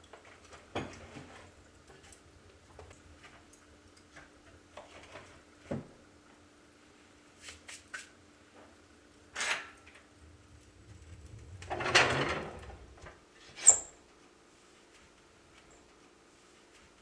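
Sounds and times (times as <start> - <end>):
faint fan hum: 0.0 - 17.0.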